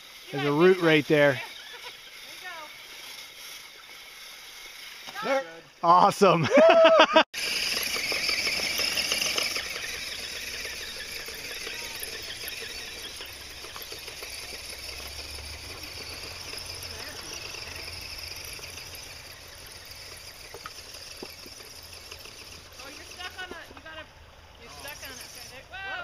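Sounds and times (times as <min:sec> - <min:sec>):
toy truck electric motor whirring: 0:00.0 - 0:05.7, 0:07.3 - 0:26.0.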